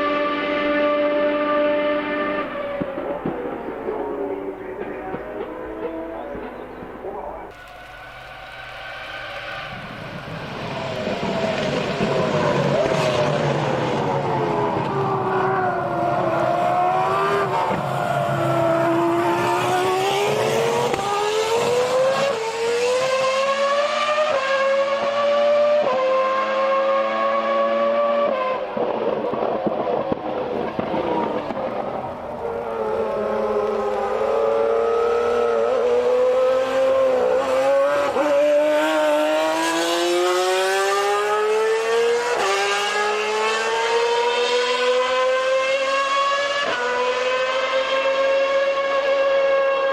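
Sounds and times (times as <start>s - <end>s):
racing car engine accelerating: 0.0s - 49.9s.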